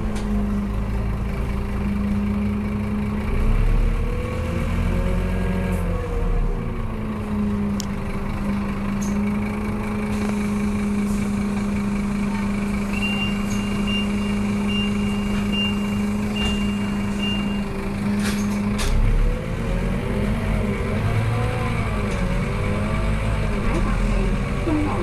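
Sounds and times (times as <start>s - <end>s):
bus diesel engine idling: 0.0s - 25.0s.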